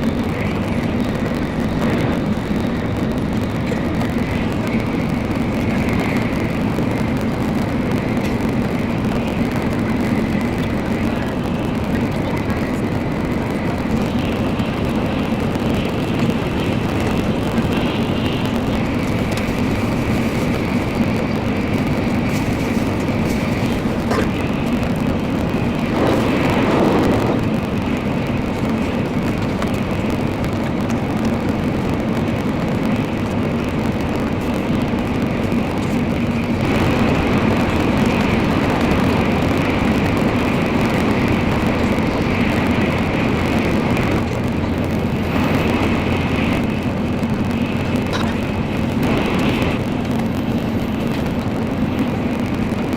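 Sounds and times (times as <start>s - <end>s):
train rumbling at speed: 0.0s - 52.9s.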